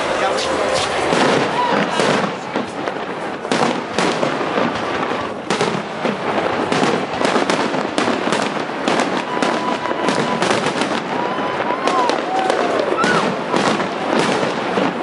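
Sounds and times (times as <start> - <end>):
fireworks bursting: 0.0 - 15.0
fireworks crackling: 0.0 - 15.0.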